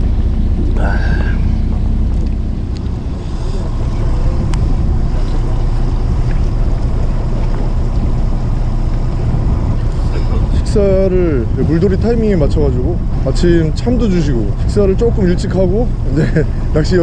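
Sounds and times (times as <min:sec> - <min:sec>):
boat engine drone: 0:00.0 - 0:17.0
wind rushing over microphone: 0:00.0 - 0:17.0.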